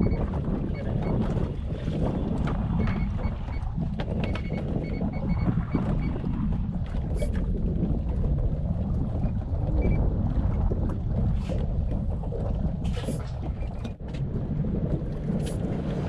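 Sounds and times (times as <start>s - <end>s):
low rumble of wind and water: 0.0s - 16.0s.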